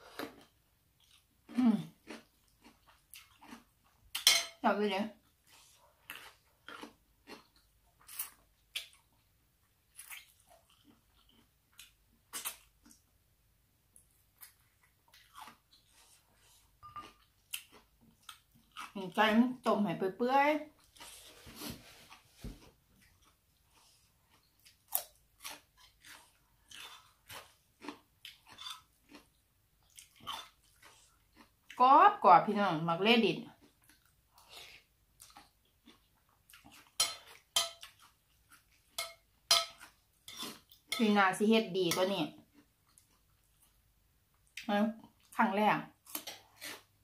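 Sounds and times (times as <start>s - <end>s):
person chewing food: 0.0s - 4.4s, 5.2s - 13.1s, 13.9s - 19.0s, 20.7s - 31.8s, 33.5s - 41.0s, 42.4s - 45.4s, 46.0s - 47.0s.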